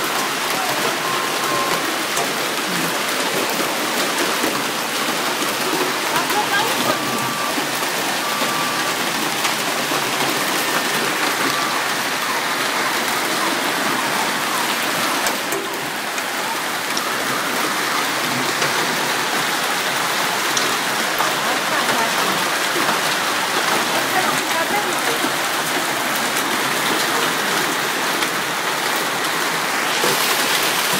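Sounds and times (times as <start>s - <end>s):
hail and heavy rain pelting: 0.0s - 30.9s.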